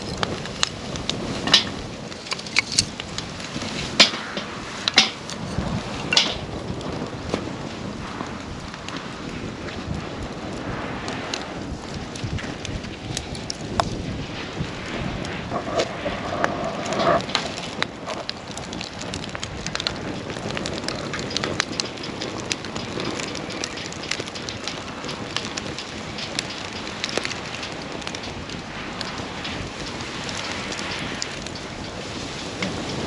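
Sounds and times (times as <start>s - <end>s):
burning wood crackling: 0.0s - 33.0s
flame hissing: 0.0s - 33.0s.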